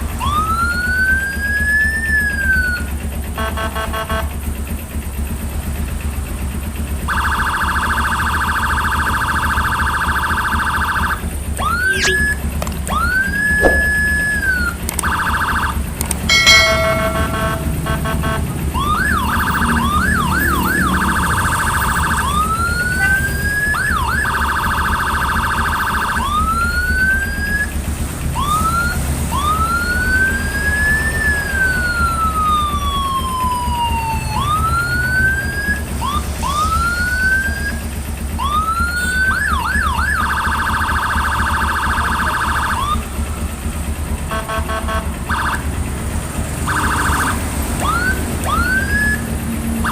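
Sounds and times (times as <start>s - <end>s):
electronic siren: 7.0s - 43.3s, 44.4s - 45.8s, 46.6s - 49.9s.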